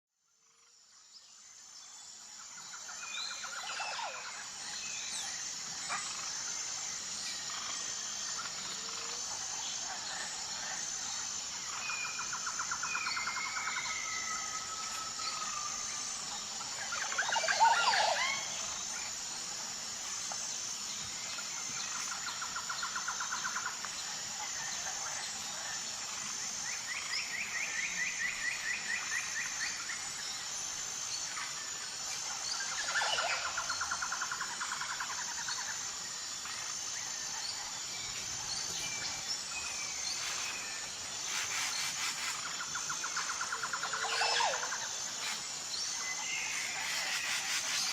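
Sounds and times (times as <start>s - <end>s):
high-pitched insect drone: 0.3s - 47.9s.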